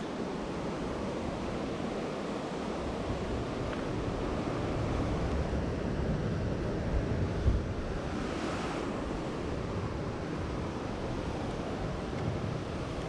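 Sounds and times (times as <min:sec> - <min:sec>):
sea surf on rocks: 0:00.0 - 0:13.0
wind rumbling on microphone: 0:00.0 - 0:13.0.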